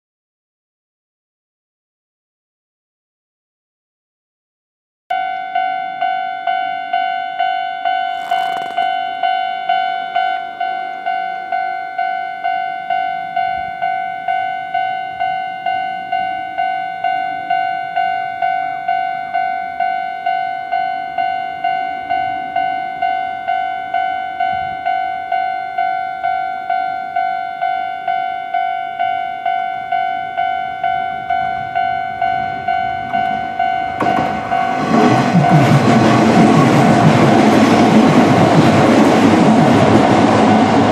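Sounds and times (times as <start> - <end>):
level-crossing warning bell: 5.1 - 40.9
electric train rumbling: 5.2 - 40.9.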